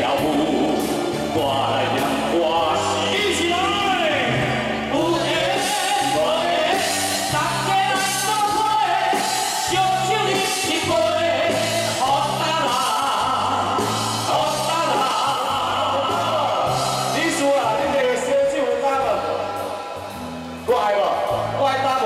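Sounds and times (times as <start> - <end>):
person singing into microphone: 0.0 - 17.8
amplified music with steady beat: 0.0 - 21.6.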